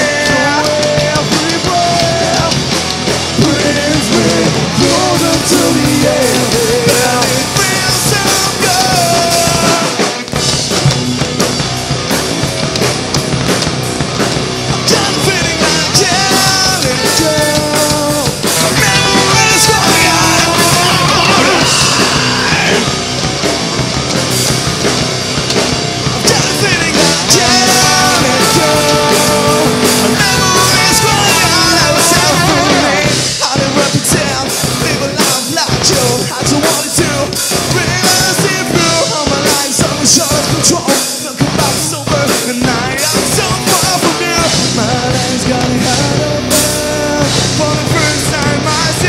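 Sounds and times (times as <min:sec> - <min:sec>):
person singing: 0:00.0 - 0:02.6, 0:03.4 - 0:10.2, 0:14.8 - 0:22.9, 0:26.2 - 0:49.0
bass guitar: 0:00.0 - 0:49.0
distorted electric guitars: 0:00.0 - 0:49.0
drum kit: 0:00.0 - 0:49.0.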